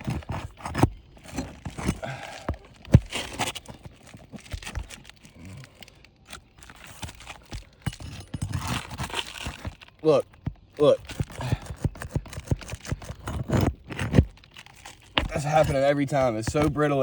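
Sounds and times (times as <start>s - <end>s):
shingles crackling and tearing: 0.0s - 17.0s.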